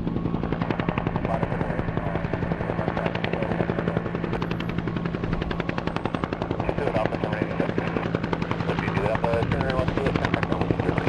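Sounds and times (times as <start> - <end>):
helicopter rotor beating: 0.0 - 11.0
turbine hum: 0.0 - 11.0.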